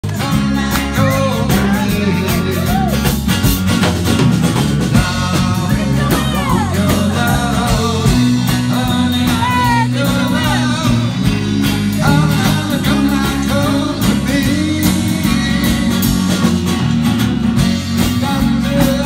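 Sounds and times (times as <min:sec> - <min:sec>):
man singing into microphone: 0:00.0 - 0:03.1, 0:04.9 - 0:16.5, 0:18.0 - 0:19.0
acoustic guitar: 0:00.0 - 0:19.0
drum kit beat: 0:00.0 - 0:19.0.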